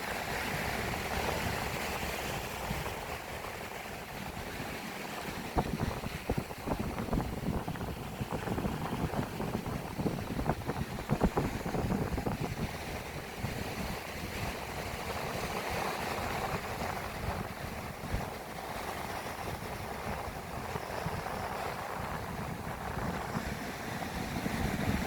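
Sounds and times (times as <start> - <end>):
sea waves washing: 0.0 - 25.0
wind buffeting microphone: 0.2 - 25.0.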